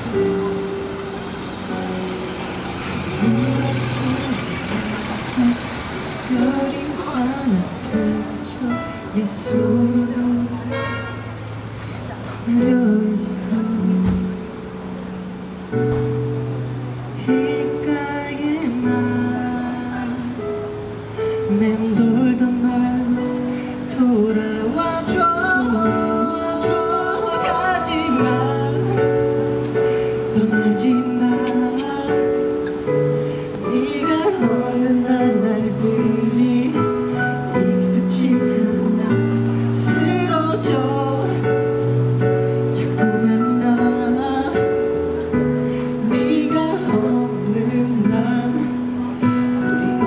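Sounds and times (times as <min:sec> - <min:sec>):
man singing ballad: 0:02.9 - 0:14.9, 0:16.0 - 0:50.0.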